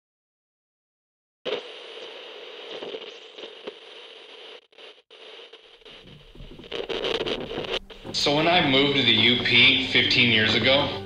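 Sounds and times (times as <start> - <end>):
crackling static: 1.4 - 11.0.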